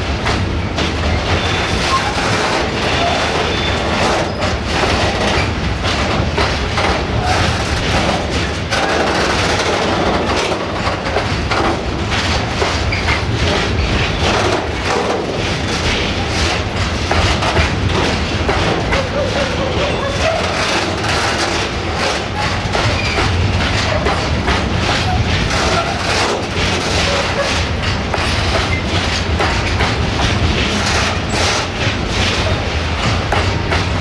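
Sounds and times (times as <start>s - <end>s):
train wheels rumbling on rail: 0.0s - 34.0s
wheels clacking over track: 0.0s - 34.0s.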